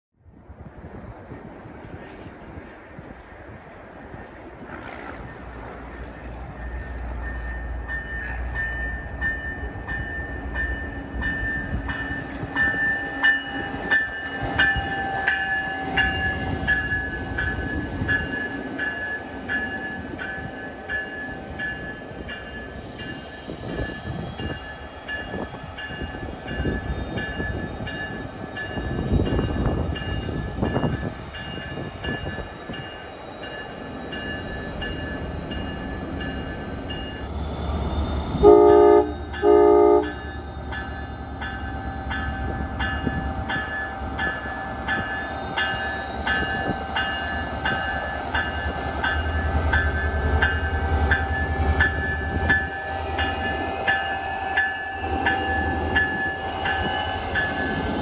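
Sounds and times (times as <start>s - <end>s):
passenger train passing: 0.2s - 58.0s
train wheels rumbling on rails: 0.2s - 58.0s.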